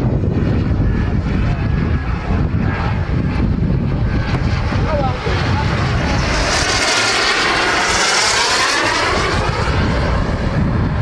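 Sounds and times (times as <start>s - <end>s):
model jet flying past: 0.0s - 11.0s.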